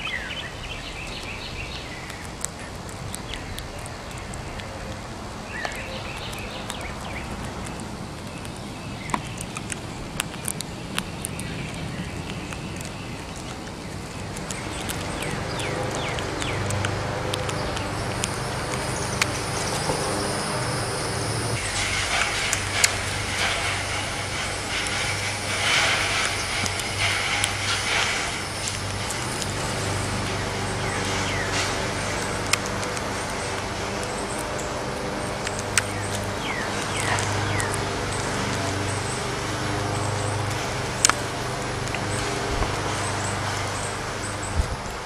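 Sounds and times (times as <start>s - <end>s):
bird chirps: 0.0s - 4.8s, 5.5s - 32.5s, 33.2s - 39.3s
squirrel cracking seeds: 0.0s - 45.0s
steady low hum: 0.0s - 45.0s.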